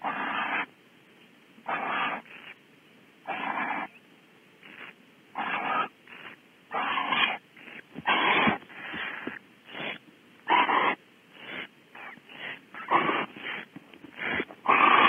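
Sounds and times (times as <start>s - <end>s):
barn owls hissing: 0.0s - 0.7s, 1.6s - 2.6s, 3.2s - 4.0s, 4.6s - 15.0s.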